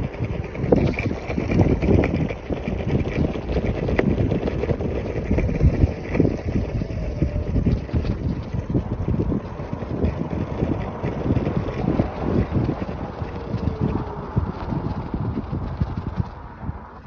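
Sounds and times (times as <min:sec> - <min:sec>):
scooter wheels rumbling on pavement: 0:00.0 - 0:17.0
wind buffeting microphone: 0:00.0 - 0:17.0.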